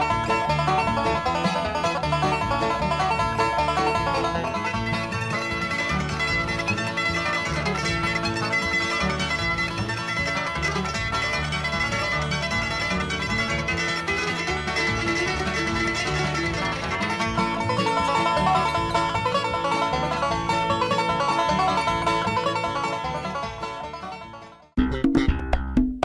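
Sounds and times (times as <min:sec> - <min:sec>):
plucked string instrumental music: 0:00.0 - 0:26.0.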